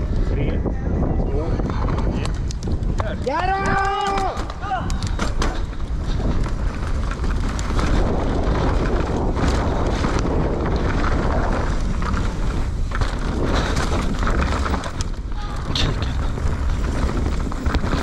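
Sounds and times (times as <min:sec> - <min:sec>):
bike knocking and rattling: 0:00.0 - 0:18.0
wind rushing over microphone: 0:00.0 - 0:18.0.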